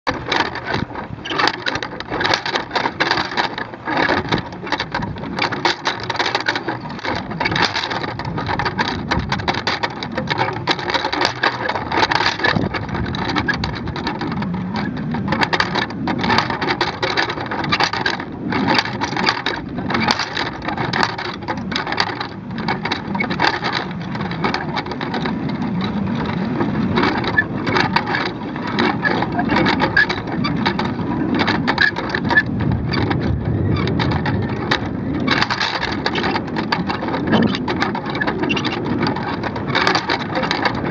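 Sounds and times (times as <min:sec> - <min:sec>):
camera rig rattling: 0:00.1 - 0:40.9
wind buffeting: 0:03.6 - 0:10.9, 0:11.6 - 0:40.9.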